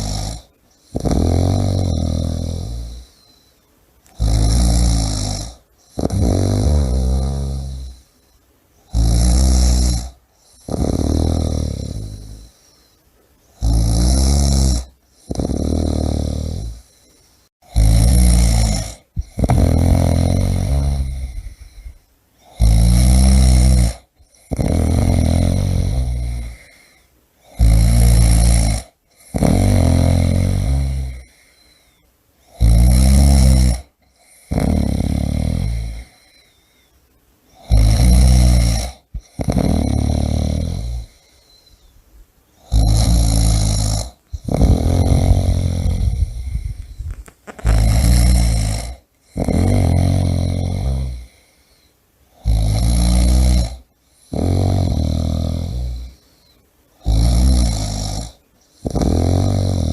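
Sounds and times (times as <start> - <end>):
person snoring: 0.0 - 3.5, 4.1 - 8.2, 8.8 - 41.9, 42.6 - 59.9.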